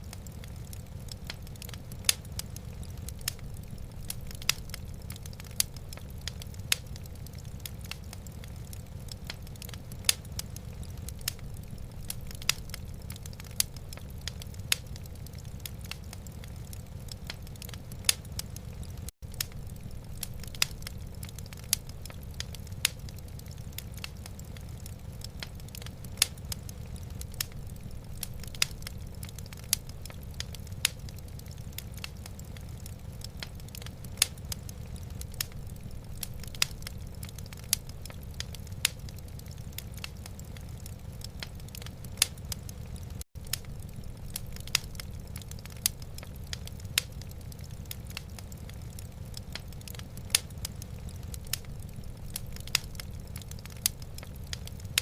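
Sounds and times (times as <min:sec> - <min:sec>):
sharp pops from fire: 0:00.0 - 0:55.0
wood fire crackling: 0:00.0 - 0:55.0.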